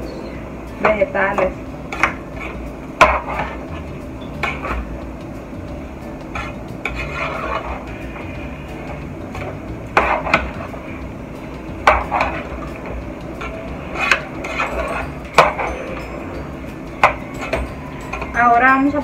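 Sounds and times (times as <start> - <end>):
food frying: 0.8 - 19.0.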